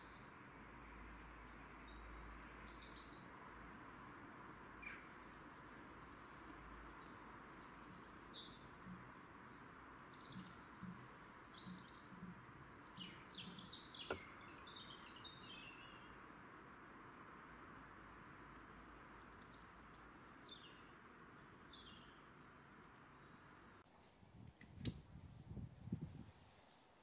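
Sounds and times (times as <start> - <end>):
small birds chirping: 0.0 - 23.8
faint outdoor hiss: 0.0 - 27.0.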